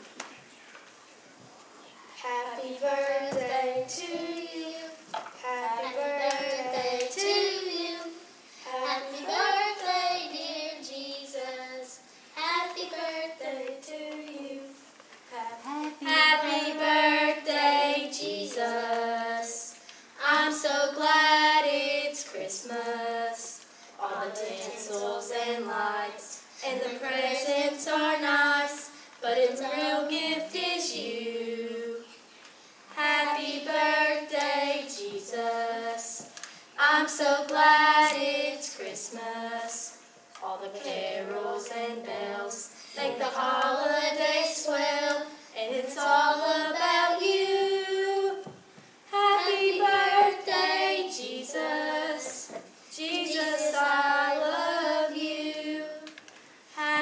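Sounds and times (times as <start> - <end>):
girls singing without instruments: 2.2 - 57.0.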